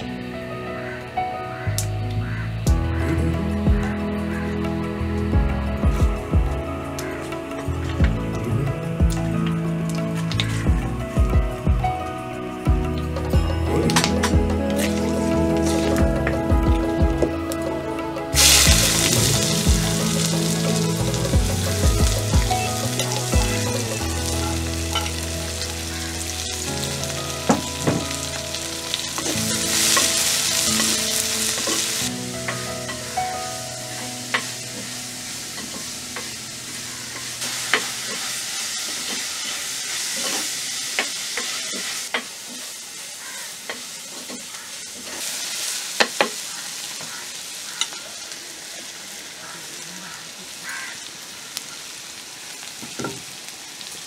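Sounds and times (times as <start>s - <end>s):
food sizzling in hot oil: 6.0s - 54.0s.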